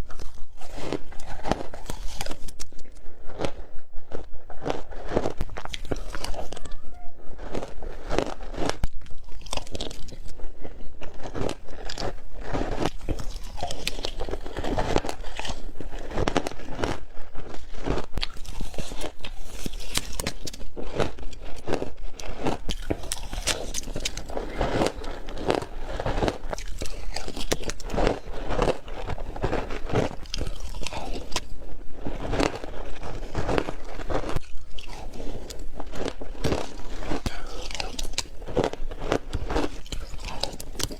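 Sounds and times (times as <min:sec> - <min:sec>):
ice being chewed crunching: 0:00.0 - 0:40.9.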